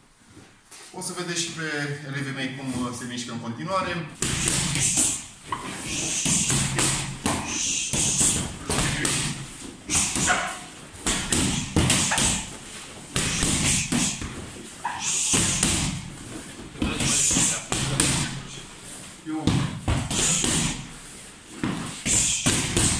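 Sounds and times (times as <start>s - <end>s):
boxing gloves punching mitts: 4.2s - 22.9s.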